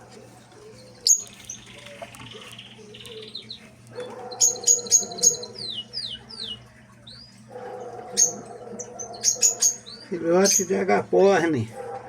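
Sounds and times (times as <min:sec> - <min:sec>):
small cage birds chirping: 0:00.0 - 0:12.0.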